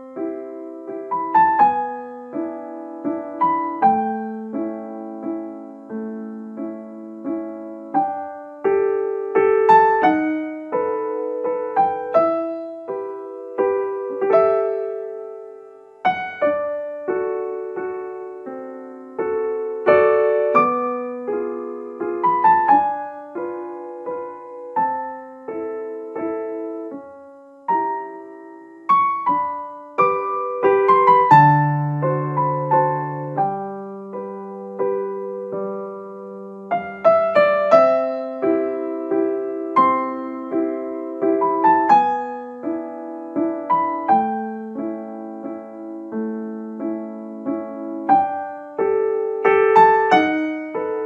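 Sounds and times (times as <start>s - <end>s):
gentle piano music: 0.0s - 51.0s.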